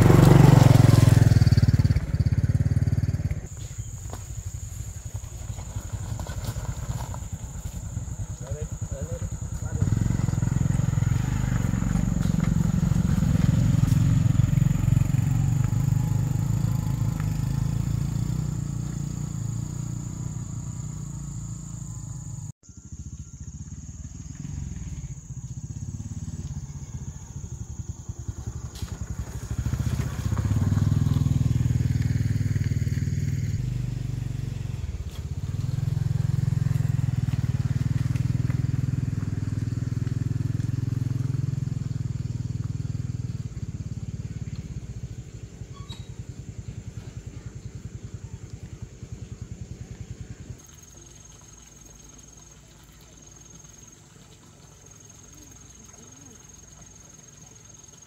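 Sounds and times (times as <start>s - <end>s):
motorbike engine droning: 0.0s - 50.6s.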